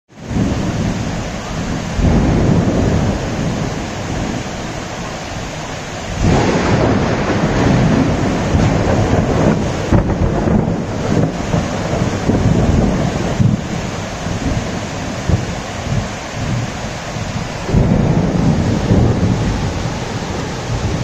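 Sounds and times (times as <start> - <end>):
gusting wind: 0.1 - 21.0
heavy rain downpour: 0.1 - 21.0.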